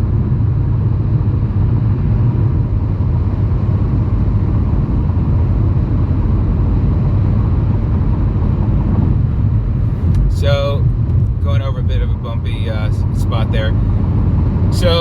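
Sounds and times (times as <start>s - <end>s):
tyre road noise rumble: 0.0s - 15.0s.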